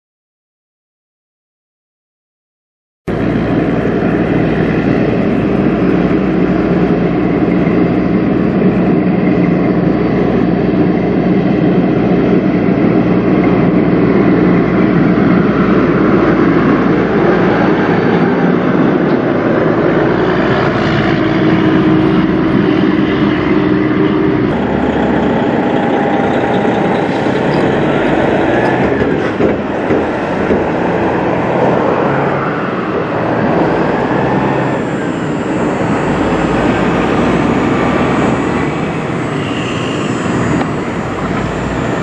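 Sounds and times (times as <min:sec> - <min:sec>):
diesel truck engine passing: 0:03.1 - 0:42.0.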